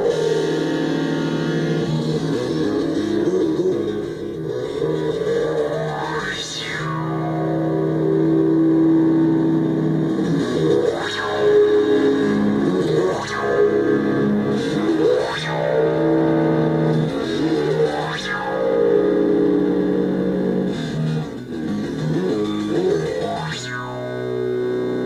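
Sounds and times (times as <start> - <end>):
buzzing synthesizer drone: 0.0 - 25.0
swooping filter sweeps: 0.0 - 25.0.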